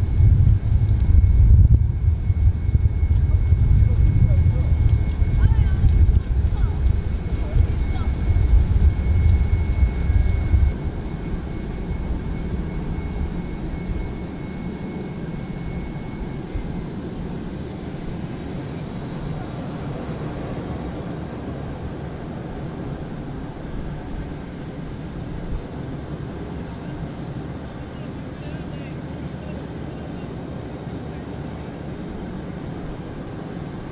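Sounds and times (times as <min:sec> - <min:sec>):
jet engines rumbling: 0:00.0 - 0:33.9
thin high whine: 0:00.0 - 0:33.9.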